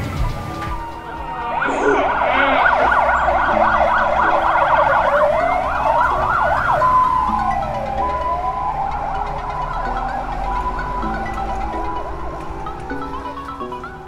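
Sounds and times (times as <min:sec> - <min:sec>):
emergency siren: 0:00.0 - 0:14.0.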